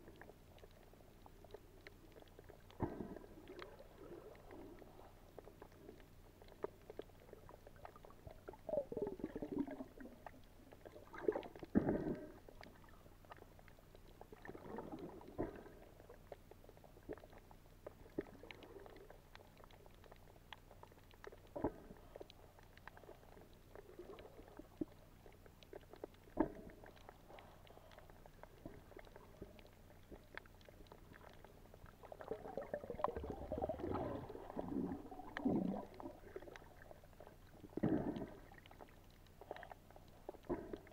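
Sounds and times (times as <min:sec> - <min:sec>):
underwater sloshing and bubbling: 0:00.0 - 0:40.9.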